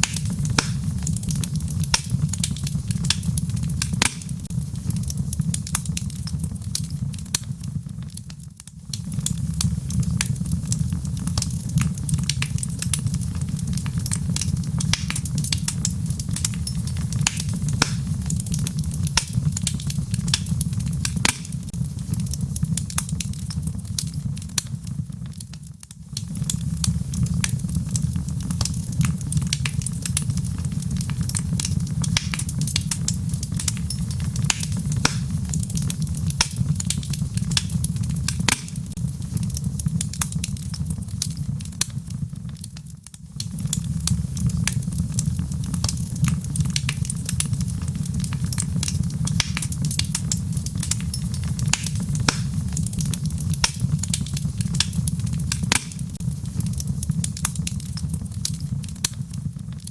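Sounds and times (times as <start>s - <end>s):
fire flames rumbling: 0.0s - 59.9s
wood fire crackling and popping: 0.0s - 59.9s.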